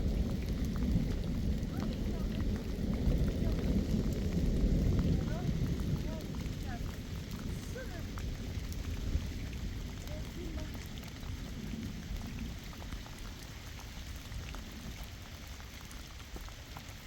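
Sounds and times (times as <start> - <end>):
low rumble: 0.0 - 14.2
rain falling: 0.0 - 17.0.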